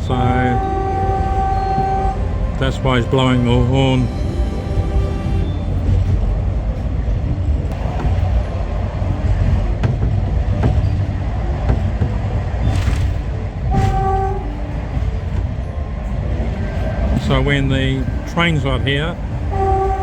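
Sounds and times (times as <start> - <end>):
train rumbling along track: 0.0 - 20.0
train wheels clicking: 0.0 - 20.0.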